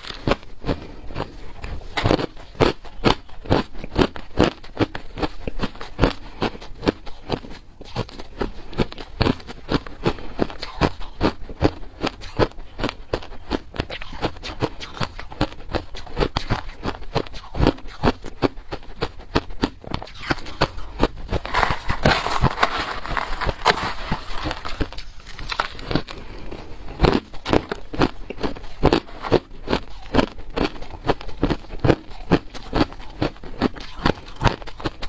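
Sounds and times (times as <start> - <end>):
crushed ice being chewed: 0.0 - 35.0.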